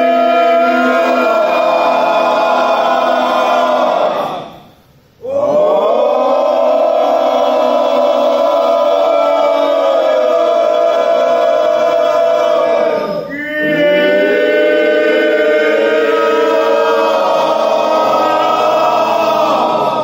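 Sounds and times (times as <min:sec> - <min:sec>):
group of voices chanting: 0:00.0 - 0:20.0.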